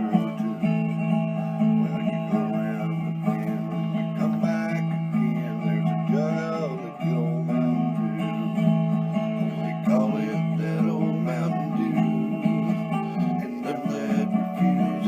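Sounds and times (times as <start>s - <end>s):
acoustic guitar country tune: 0.0s - 15.0s.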